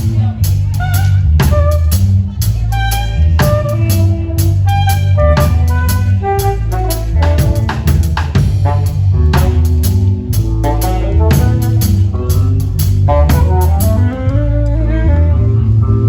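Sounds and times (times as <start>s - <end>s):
drum kit beat: 0.0s - 14.9s
heavy bass line: 0.0s - 16.0s
saxophone solo: 0.7s - 16.0s.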